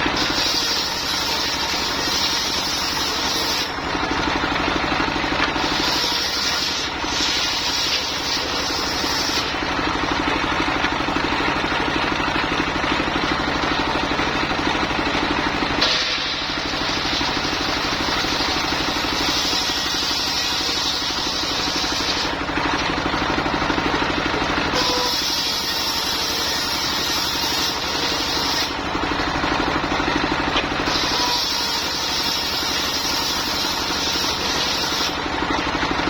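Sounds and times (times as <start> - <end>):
circular sawmill running: 0.0 - 36.0.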